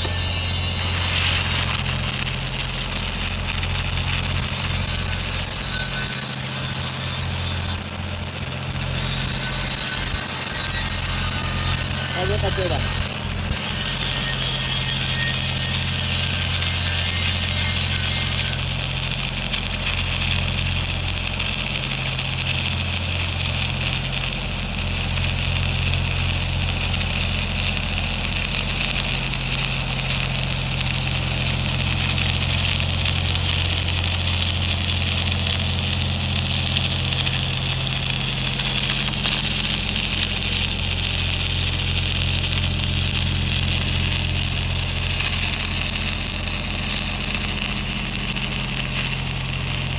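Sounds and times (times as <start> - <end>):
welding arc crackling hiss: 0.0 - 49.9
welding machine hum: 0.0 - 49.9.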